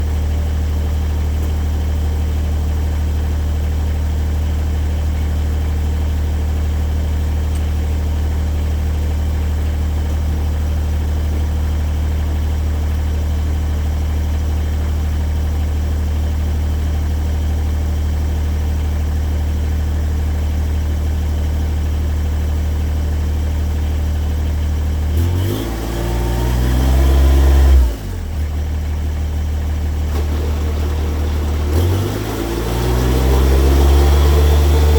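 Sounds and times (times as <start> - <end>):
tractor diesel engine running: 0.0 - 25.3, 26.0 - 34.9.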